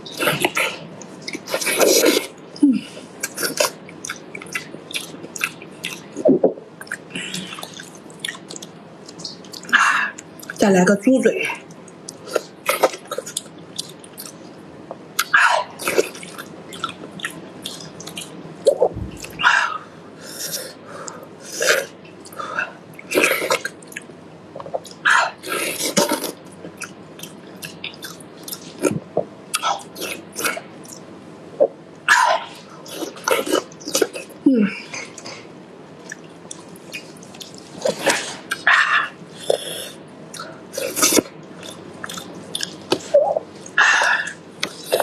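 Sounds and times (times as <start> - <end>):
person chewing with smacking: 0.1 - 10.6, 11.6 - 19.5, 20.4 - 45.0.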